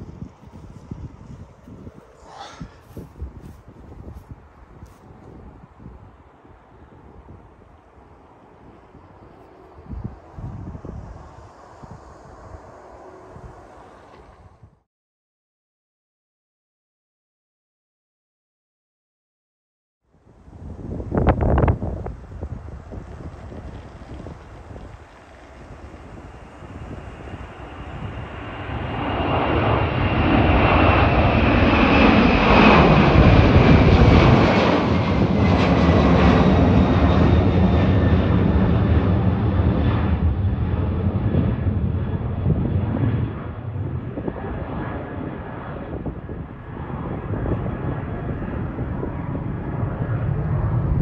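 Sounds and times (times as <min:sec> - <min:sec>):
jet airliner engines climbing: 0:00.0 - 0:14.8, 0:20.2 - 0:51.0.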